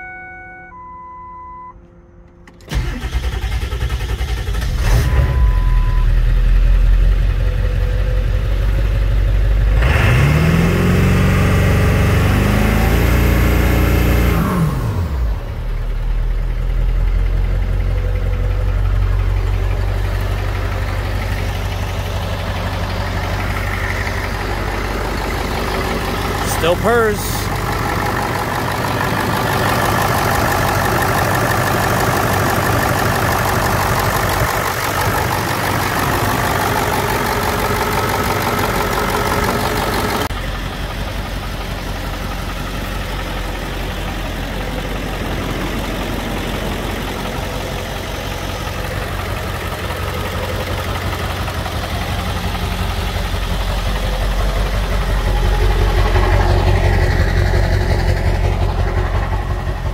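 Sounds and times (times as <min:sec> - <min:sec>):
diesel engine idling: 0:00.0 - 0:59.9
exhaust rumble: 0:02.0 - 0:59.9.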